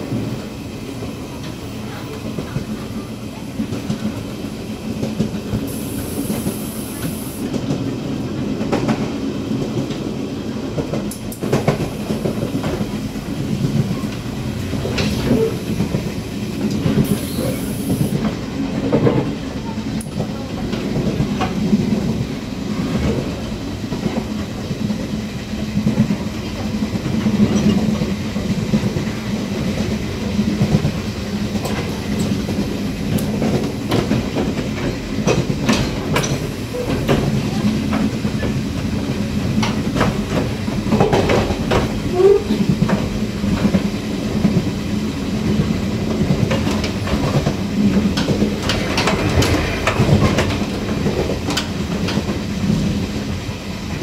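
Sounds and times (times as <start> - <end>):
train running low rumble: 0.0 - 54.0.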